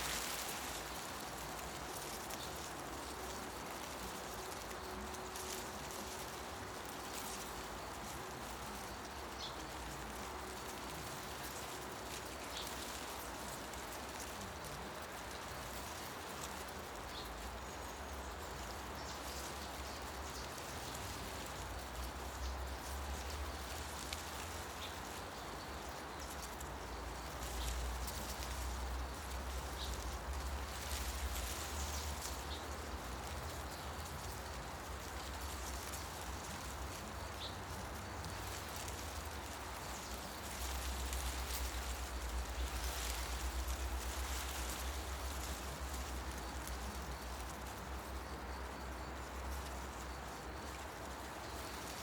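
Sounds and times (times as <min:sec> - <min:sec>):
wind rustling tree leaves: 0:00.0 - 0:52.0.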